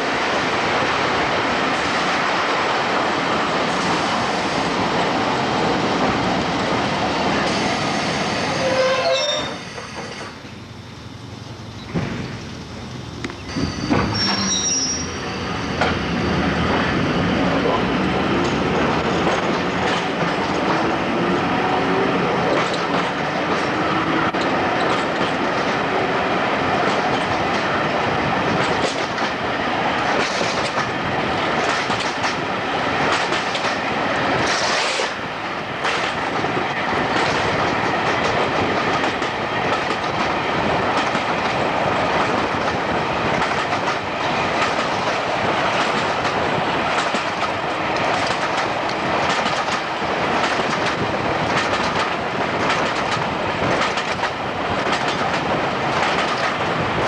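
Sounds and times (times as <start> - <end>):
train rush: 0.0 - 57.0
train wheels clicking on rails: 0.0 - 57.0.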